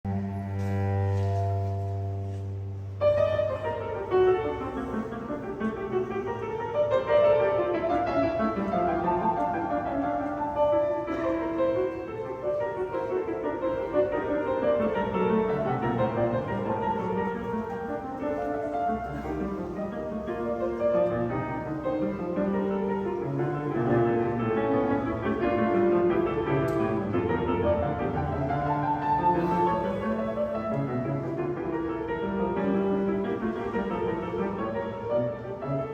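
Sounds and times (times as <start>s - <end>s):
piano broken chords: 0.0s - 35.9s
bowed strings: 0.1s - 35.9s.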